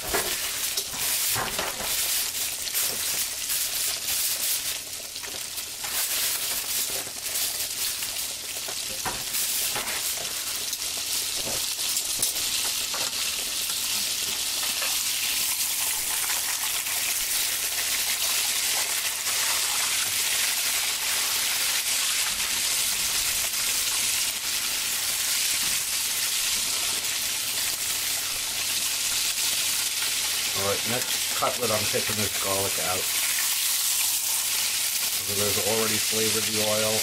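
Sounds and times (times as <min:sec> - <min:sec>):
cutlet sizzling in hot oil: 0:00.0 - 0:37.0.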